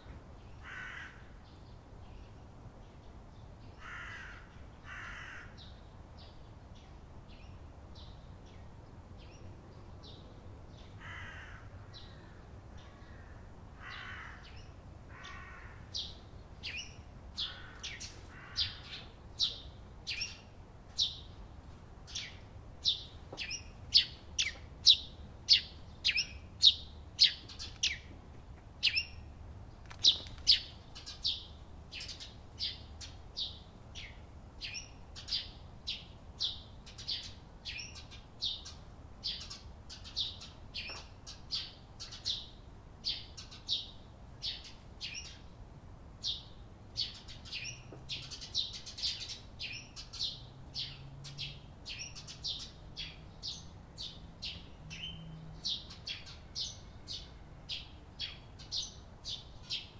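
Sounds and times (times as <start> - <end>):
sparrows chirping: 0.0 - 21.4, 22.0 - 28.2, 28.8 - 45.6, 46.2 - 59.9.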